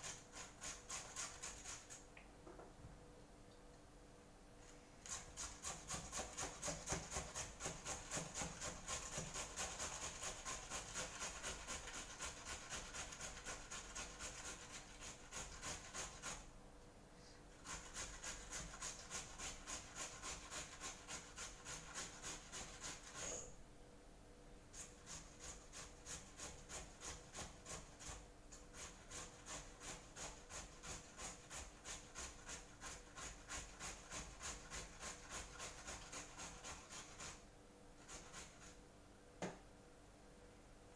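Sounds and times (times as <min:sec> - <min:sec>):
potato grating on metal grater: 0:00.0 - 0:02.0, 0:05.0 - 0:16.5, 0:17.5 - 0:23.4, 0:24.7 - 0:38.8.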